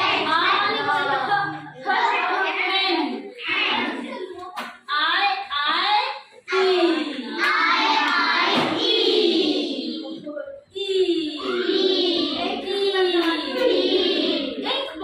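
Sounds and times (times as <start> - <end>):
children reciting in chorus: 0.0 - 5.4, 6.4 - 15.0.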